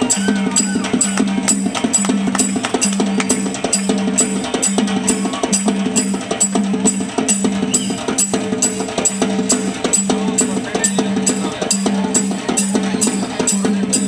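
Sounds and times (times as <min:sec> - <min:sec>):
drum music with fast beat: 0:00.0 - 0:14.0.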